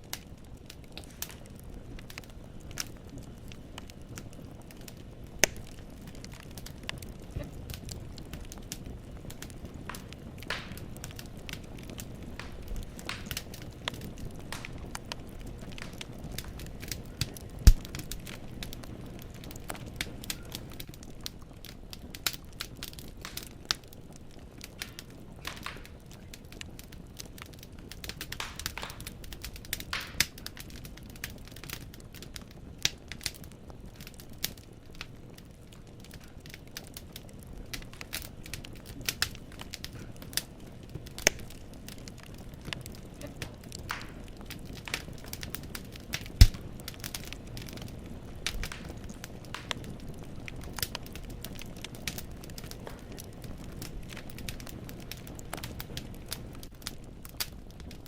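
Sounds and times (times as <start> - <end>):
firewood crackling and popping: 0.0 - 58.0
low fire rumble: 0.0 - 58.0.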